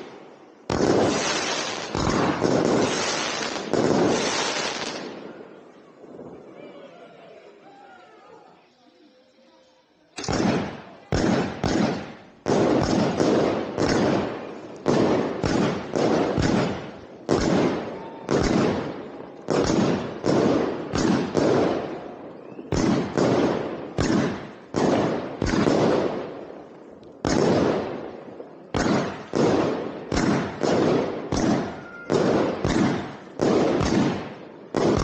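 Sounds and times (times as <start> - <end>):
firework bangs: 0.0 - 6.6, 10.2 - 35.0.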